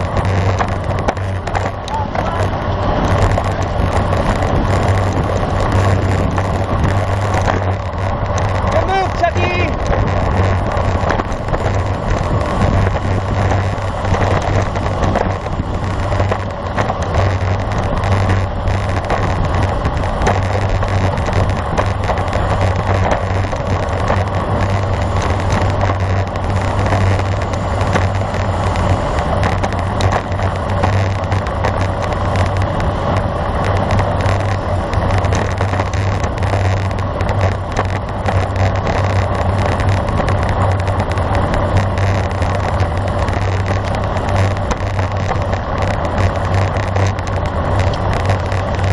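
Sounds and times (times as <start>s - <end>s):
tyre noise on road: 0.0s - 48.9s
wind rush: 0.0s - 48.9s.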